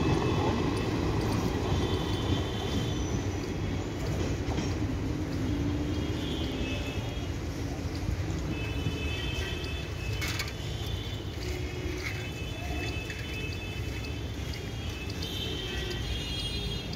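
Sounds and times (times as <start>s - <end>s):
train rumbling: 0.0s - 16.2s.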